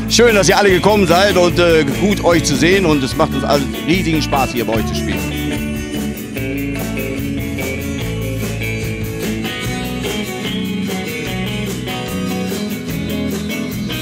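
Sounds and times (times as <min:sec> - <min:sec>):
guitars strumming: 0:00.0 - 0:14.0
steady drum beat: 0:00.0 - 0:14.0.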